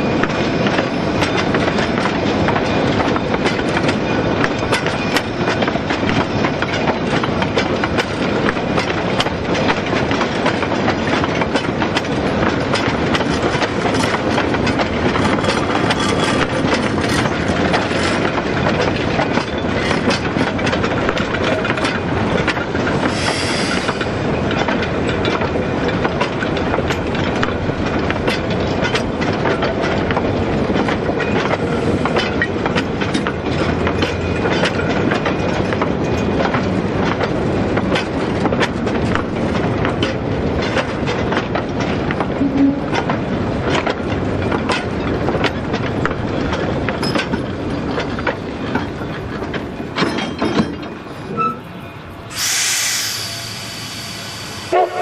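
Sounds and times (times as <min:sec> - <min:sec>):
wheels clicking over rail joints: 0:00.0 - 0:52.5
train rumbling: 0:00.0 - 0:55.0.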